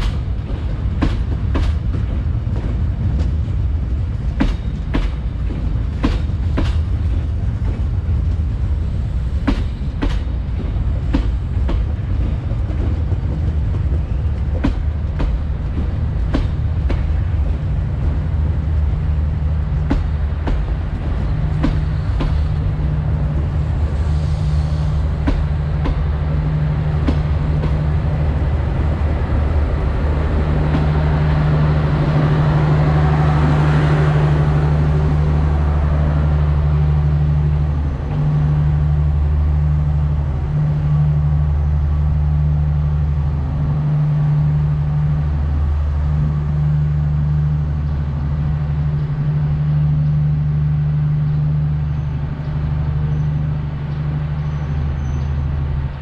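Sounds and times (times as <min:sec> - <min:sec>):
low engine drone: 0:00.0 - 0:56.0
train coaches rolling on rails: 0:00.0 - 0:56.0.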